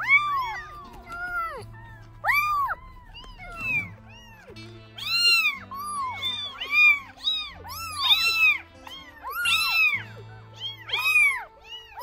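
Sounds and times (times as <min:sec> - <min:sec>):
kittens meowing: 0:00.0 - 0:12.0.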